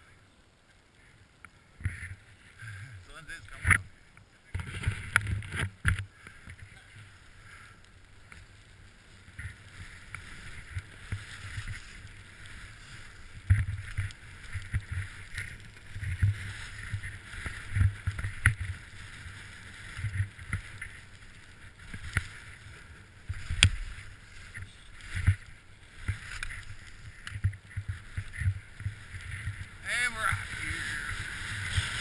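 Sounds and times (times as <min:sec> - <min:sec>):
low thumps of skis over bumps: 0:01.4 - 0:32.0
skis hissing through snow: 0:06.2 - 0:32.0.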